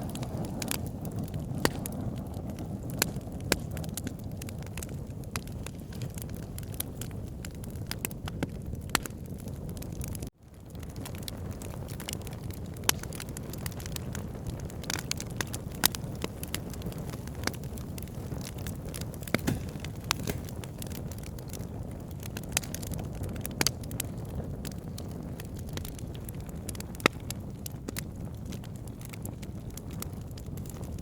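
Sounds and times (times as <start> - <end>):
burning wood crackling and popping: 0.0 - 31.0
campfire flames rumbling: 0.0 - 31.0.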